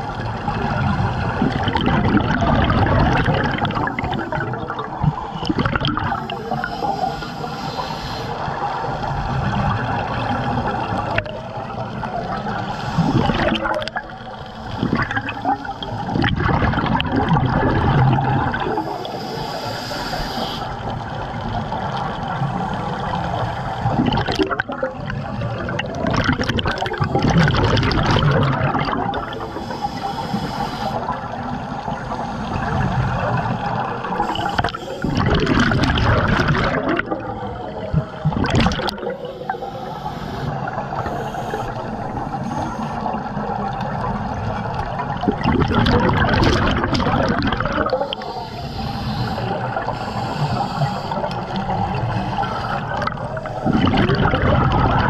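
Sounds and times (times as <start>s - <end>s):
scuba regulator bubbling underwater: 0.0s - 55.0s
underwater water noise: 0.0s - 55.0s.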